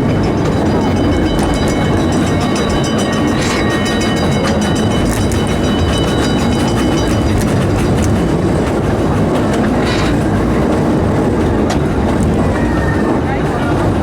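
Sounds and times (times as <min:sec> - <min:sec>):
steam train rumble: 0:00.0 - 0:14.0
wheels clacking over rail joints: 0:00.0 - 0:14.0.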